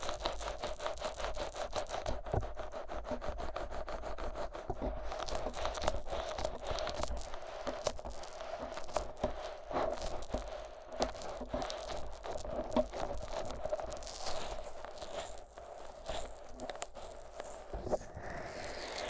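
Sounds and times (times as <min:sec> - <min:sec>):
fingers rubbing microphone ears: 0:00.0 - 0:19.0
small clicks and crackles: 0:00.0 - 0:19.0.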